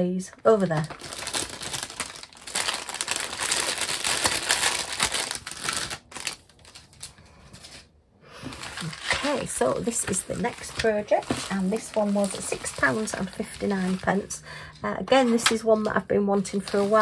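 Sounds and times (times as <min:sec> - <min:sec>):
packaging crinkling and rustling: 0:00.4 - 0:14.3, 0:15.1 - 0:17.0.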